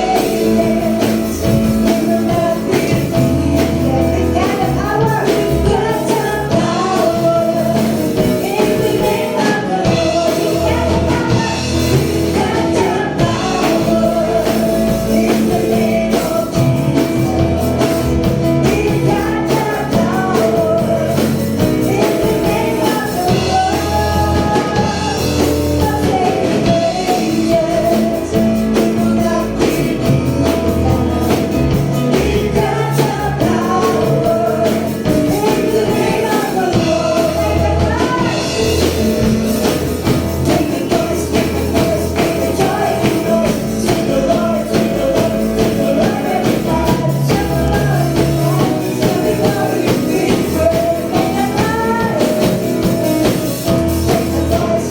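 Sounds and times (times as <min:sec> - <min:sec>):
gospel singing over full band: 0:00.0 - 0:54.9.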